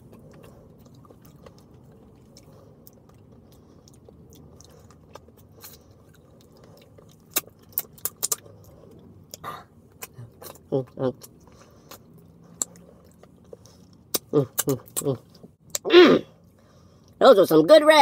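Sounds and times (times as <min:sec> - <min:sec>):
man chewing: 0:00.0 - 0:17.2
low steady background: 0:00.0 - 0:18.0.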